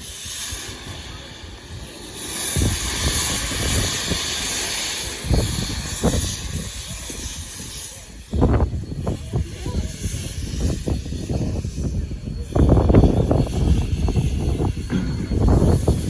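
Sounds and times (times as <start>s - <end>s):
low rumbling gusts: 0.0s - 16.0s
steam hissing: 0.0s - 16.0s.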